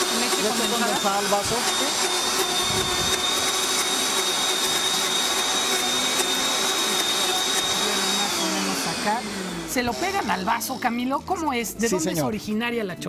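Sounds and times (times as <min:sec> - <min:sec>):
blender crushing ice: 0:00.0 - 0:11.5.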